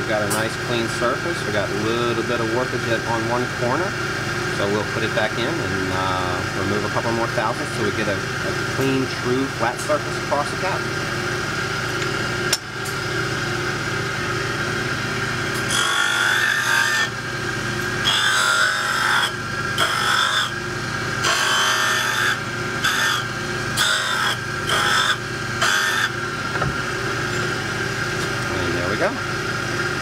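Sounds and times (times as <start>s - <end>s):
grinder motor running: 0.0s - 30.0s.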